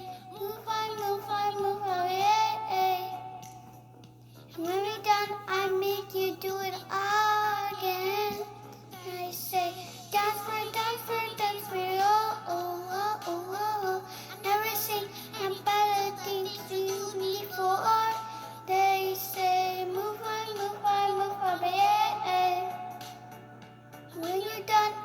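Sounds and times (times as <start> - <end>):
girl singing: 0.0 - 3.8, 4.5 - 23.3, 24.1 - 25.0.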